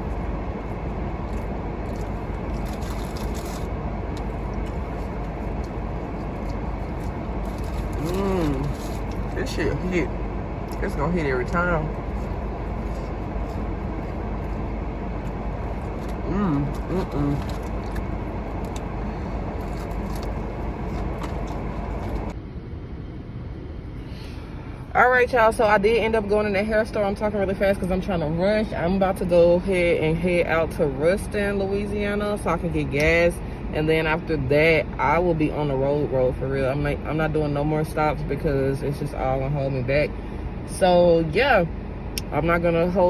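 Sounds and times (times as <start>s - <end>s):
car engine rumble: 0.0s - 43.0s.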